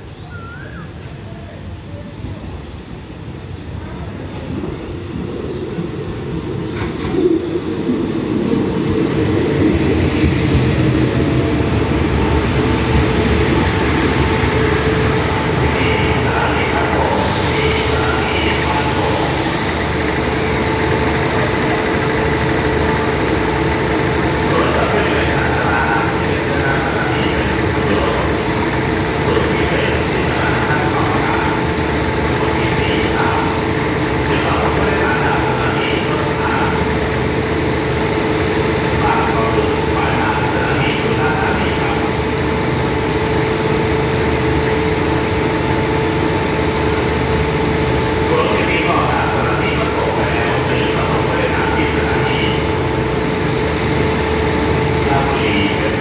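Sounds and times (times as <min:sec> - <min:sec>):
diesel railcar engines idling: 0:00.0 - 0:56.0.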